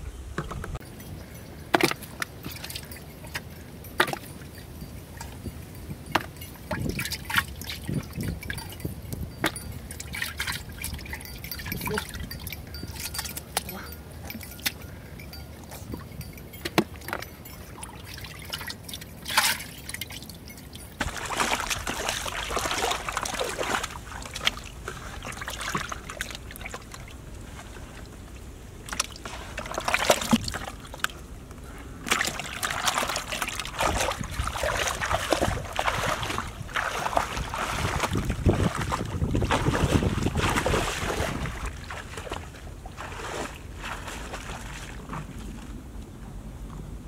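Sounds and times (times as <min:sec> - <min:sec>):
water splashing and sloshing: 0:00.3 - 0:46.3
wading through shallow water: 0:00.8 - 0:46.3.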